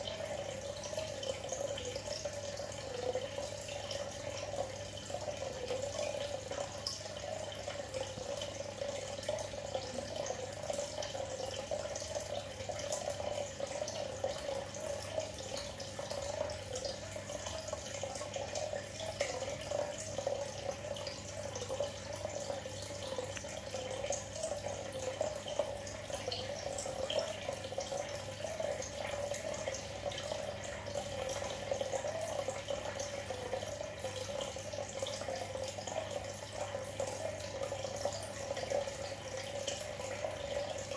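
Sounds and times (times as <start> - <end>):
aquarium aeration bubbling: 0.0 - 40.9
bubbles ticking at water surface: 0.0 - 40.9.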